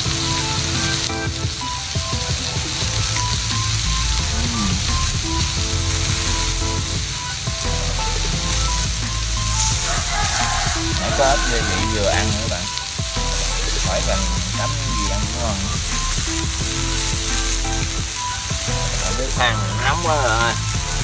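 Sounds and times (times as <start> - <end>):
beef sizzling: 0.0 - 21.0
light background music: 0.0 - 21.0.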